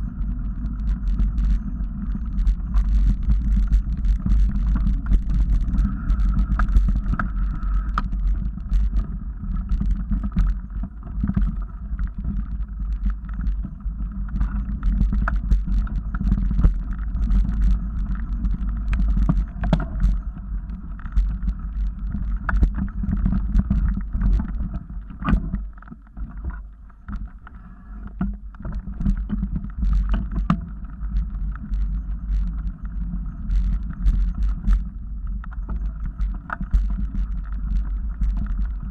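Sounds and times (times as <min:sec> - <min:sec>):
bike clicks and rattles: 0:00.0 - 0:38.9
bike rumbling over dirt trail: 0:00.0 - 0:38.9.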